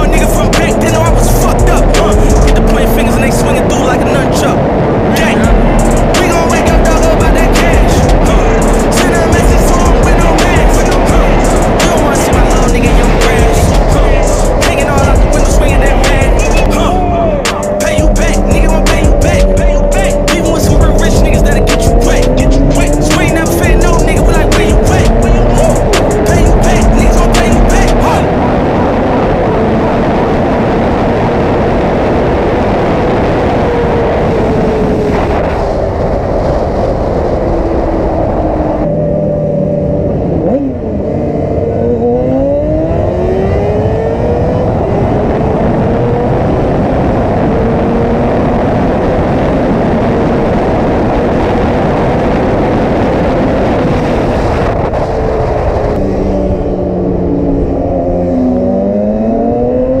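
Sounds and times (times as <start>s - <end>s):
motorcycle engine revving: 0.0s - 60.0s
wind noise: 0.0s - 60.0s.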